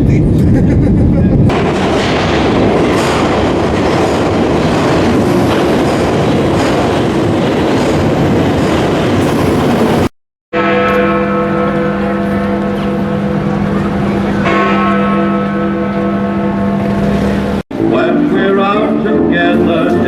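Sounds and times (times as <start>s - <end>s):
train rumbling on track: 0.0s - 10.1s, 11.8s - 20.0s.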